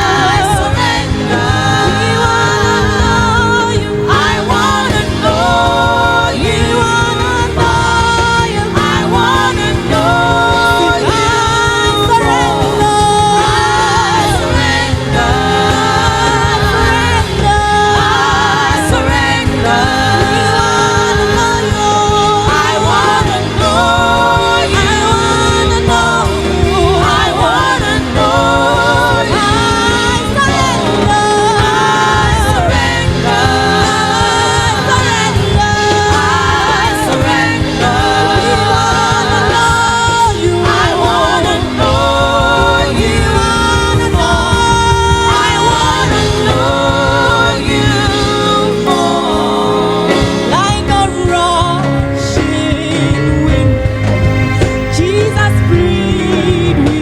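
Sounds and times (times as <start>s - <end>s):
instrumental accompaniment: 0.0s - 57.0s
voices singing with vibrato: 0.0s - 57.0s.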